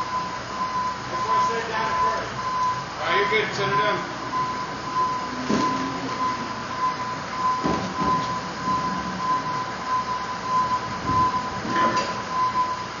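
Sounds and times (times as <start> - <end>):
workshop noise: 0.0 - 12.8
electronic warning beeper: 0.0 - 13.0.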